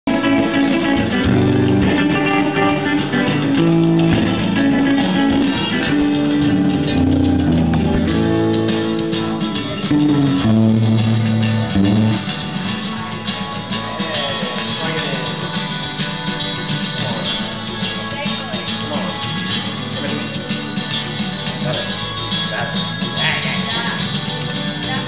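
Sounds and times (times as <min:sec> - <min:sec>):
electric guitar riff: 0:00.0 - 0:20.4.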